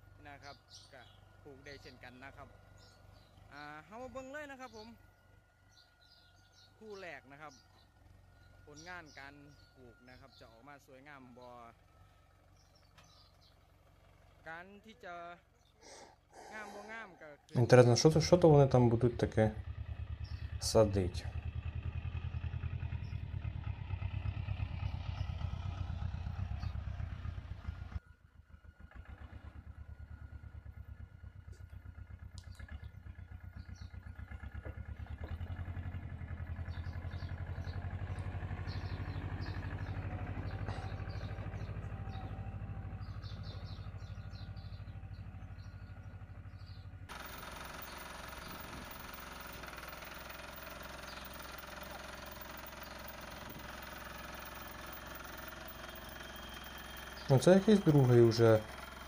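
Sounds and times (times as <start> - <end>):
small tractor engine running: 0.0 - 59.0
steadier mini tractor engine: 0.0 - 59.0.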